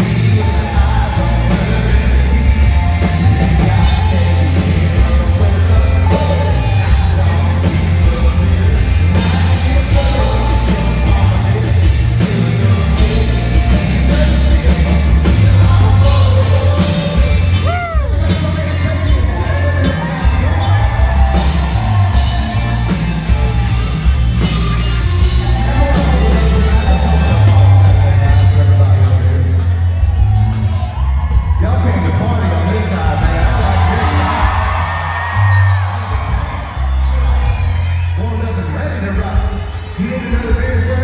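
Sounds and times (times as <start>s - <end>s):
man singing: 0.0s - 29.7s, 31.6s - 35.1s
country band playing: 0.0s - 41.0s.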